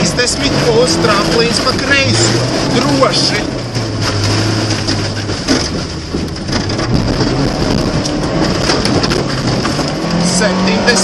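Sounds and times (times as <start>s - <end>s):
rally car engine under load: 0.0s - 11.0s.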